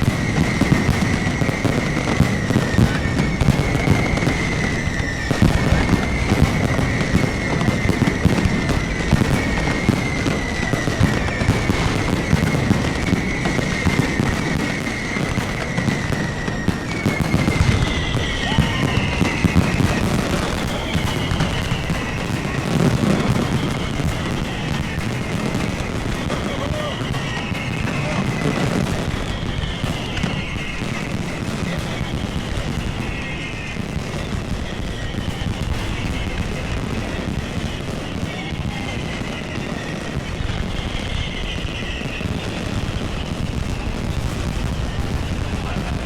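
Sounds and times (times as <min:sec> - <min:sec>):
firework whistles falling in pitch: 0:00.0 - 0:46.0
fireworks crackling and banging: 0:00.0 - 0:46.0.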